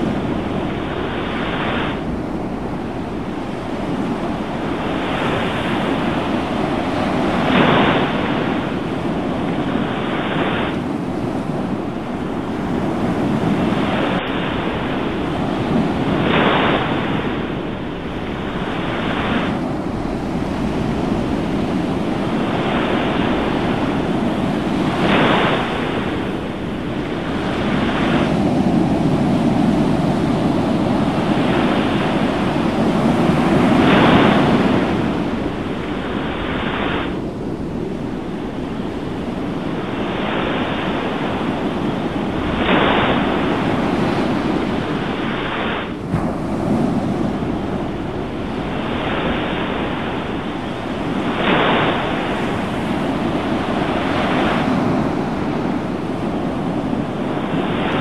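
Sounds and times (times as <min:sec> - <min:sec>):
ocean surf rushing: 0:00.0 - 0:58.0
wave breaking: 0:00.0 - 0:58.0.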